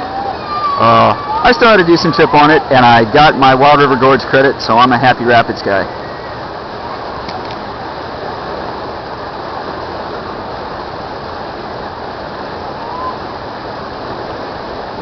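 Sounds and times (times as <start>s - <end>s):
churning water rushing: 0.0s - 15.0s.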